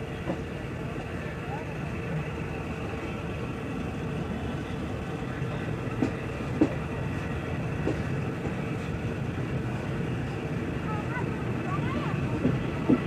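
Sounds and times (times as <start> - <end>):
rail joint clicks: 0.0 - 3.1, 3.7 - 10.8, 12.2 - 13.0
train wheels rumbling on rails: 0.0 - 13.0.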